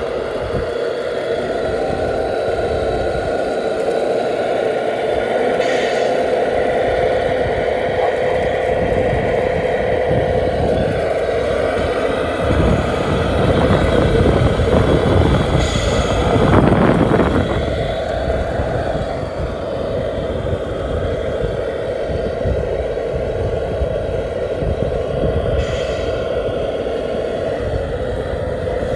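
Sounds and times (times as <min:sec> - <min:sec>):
toy truck drivetrain hum: 0:00.0 - 0:28.9.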